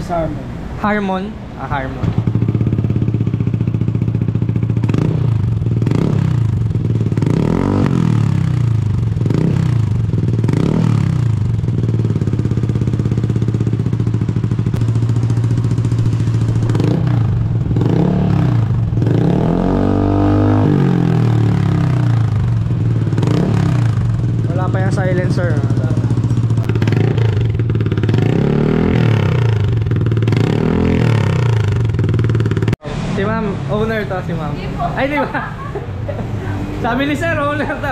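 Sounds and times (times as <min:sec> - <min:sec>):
motorcycle engine revving: 0:01.9 - 0:37.9.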